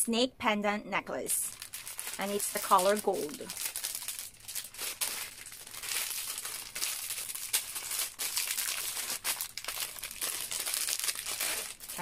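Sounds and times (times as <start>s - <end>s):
plastic bag crinkling: 1.5s - 12.0s.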